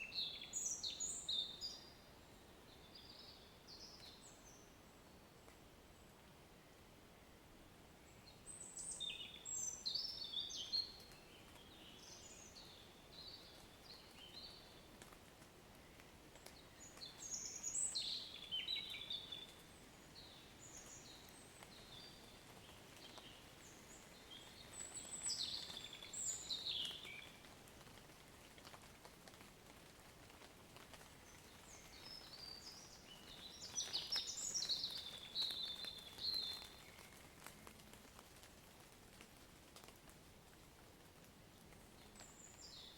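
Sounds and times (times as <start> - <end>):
songbird chirping: 0.0 - 28.1, 30.4 - 38.5, 41.7 - 42.9
light rain hiss: 0.0 - 42.9.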